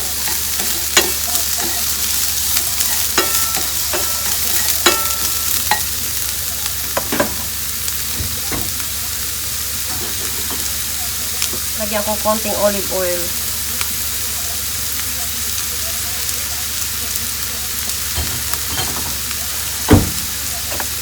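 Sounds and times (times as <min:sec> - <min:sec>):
garlic sizzling in oil: 0:00.0 - 0:21.0.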